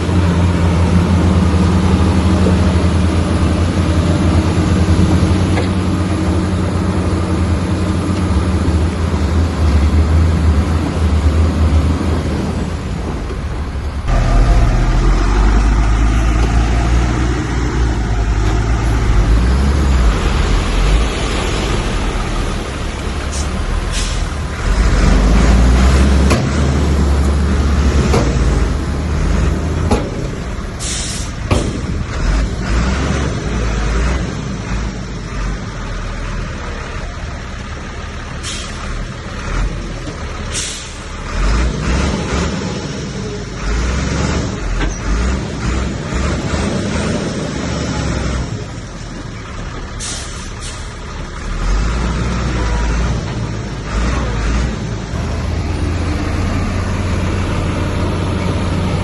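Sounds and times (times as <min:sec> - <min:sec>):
diesel machinery engine rumble: 0:00.0 - 0:59.0.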